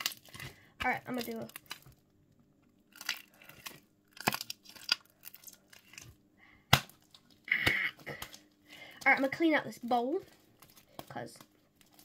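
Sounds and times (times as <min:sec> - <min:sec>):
slime squelching and crackling: 0:00.0 - 0:12.0.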